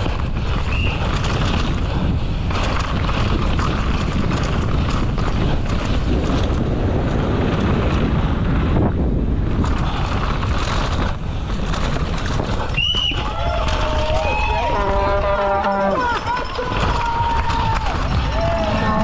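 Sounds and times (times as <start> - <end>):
bike rattling over bumps: 0.0 - 19.0
bike tyres rolling over dirt: 0.0 - 19.0
wind rushing over microphone: 0.0 - 19.0.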